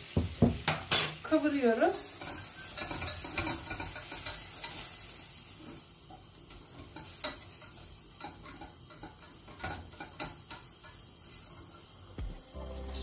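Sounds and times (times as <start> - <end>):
quiet sizzle: 0.0 - 13.0.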